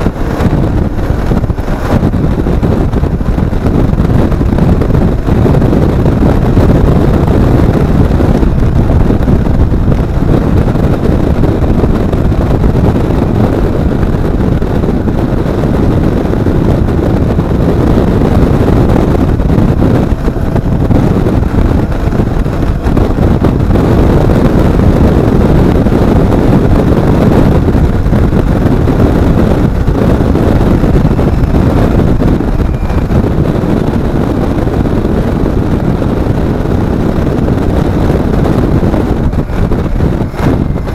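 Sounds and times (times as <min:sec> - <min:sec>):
engine noise: 0:00.0 - 0:40.9
road noise: 0:00.0 - 0:40.9
wind rushing over microphone: 0:00.0 - 0:40.9.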